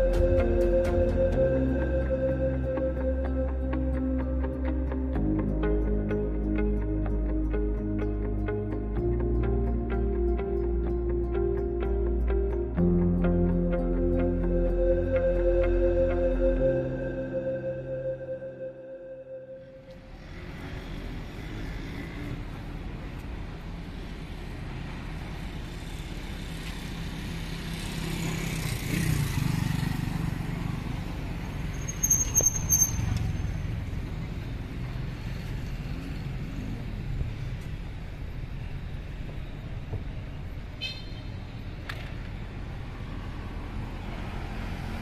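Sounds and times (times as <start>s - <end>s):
vehicles passing on road: 0.0s - 45.0s.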